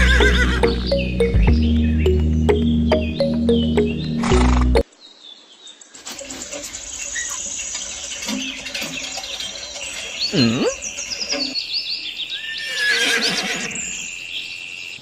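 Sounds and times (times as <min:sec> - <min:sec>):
birds chirping: 0:00.0 - 0:06.0, 0:06.8 - 0:15.0.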